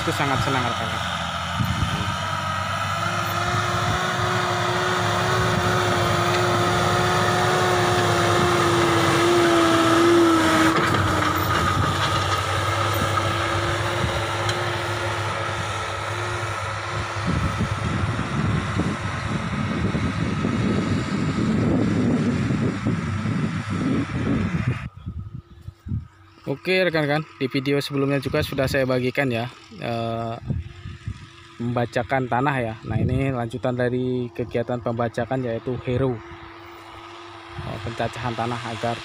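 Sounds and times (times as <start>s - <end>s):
tractor engine drone: 0.0s - 39.0s.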